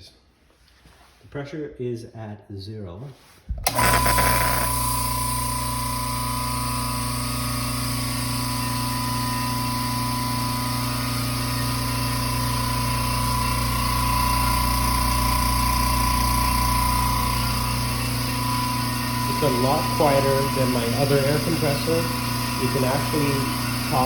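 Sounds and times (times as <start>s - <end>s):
air compressor running: 3.6s - 24.0s.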